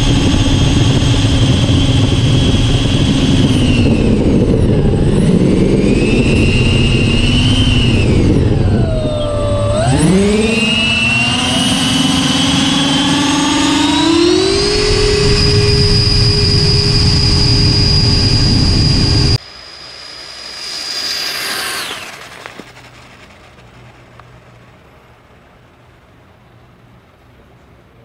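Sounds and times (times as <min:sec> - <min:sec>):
jet turbine whine: 0:00.0 - 0:26.9.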